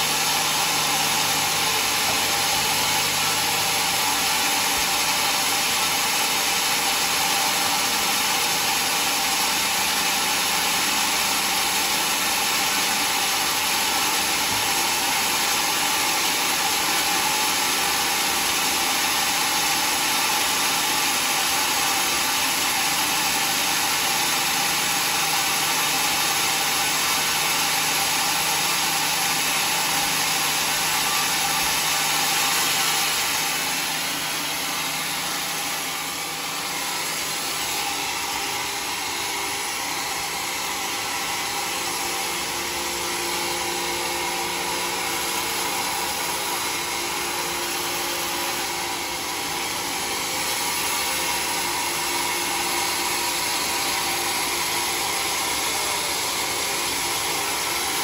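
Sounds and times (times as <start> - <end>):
band saw whirring: 0.0 - 58.0.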